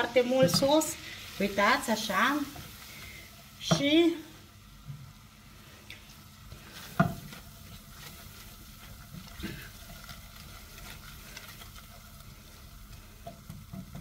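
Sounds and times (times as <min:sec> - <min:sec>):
butter sizzling: 0:00.0 - 0:14.0.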